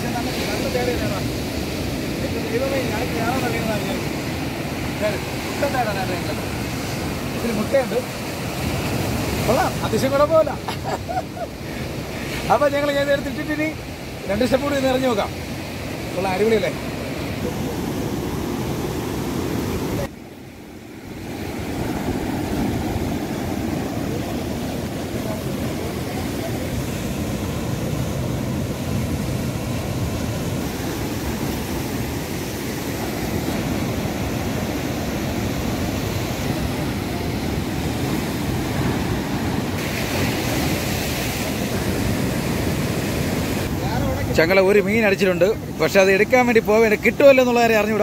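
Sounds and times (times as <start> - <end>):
sea surf washing ashore: 0.0 - 48.0.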